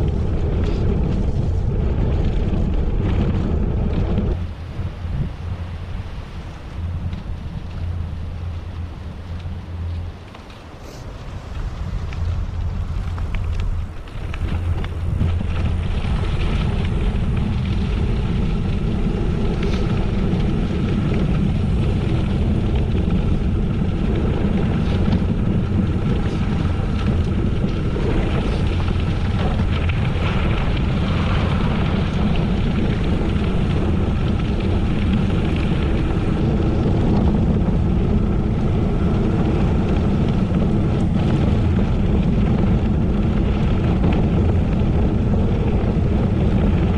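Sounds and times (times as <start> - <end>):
bicycle rolling over gravel: 0.0 - 46.9
wind rush on microphone: 0.0 - 46.9.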